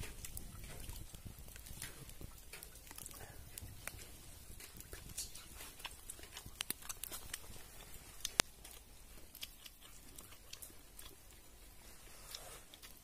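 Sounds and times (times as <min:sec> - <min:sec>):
crisp clicks: 0:00.0 - 0:11.5
person chewing and crunching: 0:00.0 - 0:13.0.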